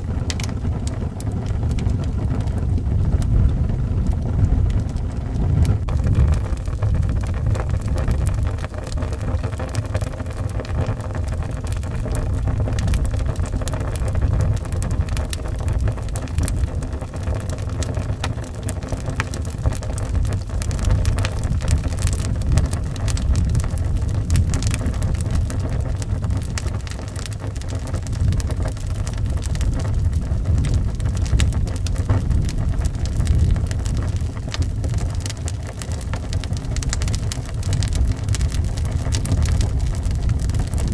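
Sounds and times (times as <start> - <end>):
howling wind: 0.0 - 40.9
wood fire crackling: 0.0 - 40.9.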